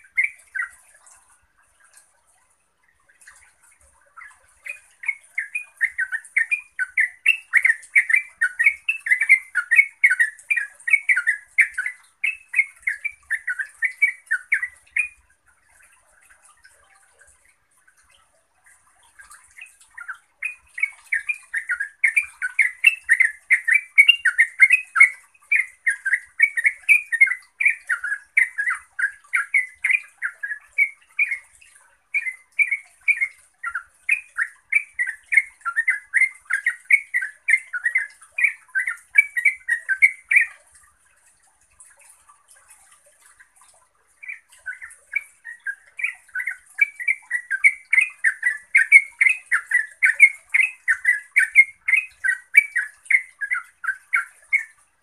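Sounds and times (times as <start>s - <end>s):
bird singing chattering song: 0.0s - 1.3s, 3.3s - 16.0s, 18.6s - 40.7s, 44.2s - 54.8s.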